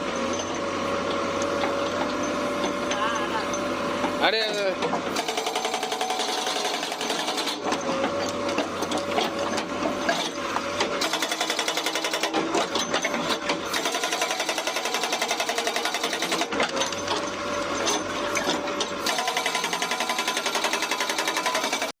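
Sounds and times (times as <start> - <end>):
excavator rattle and engine: 0.0 - 22.0.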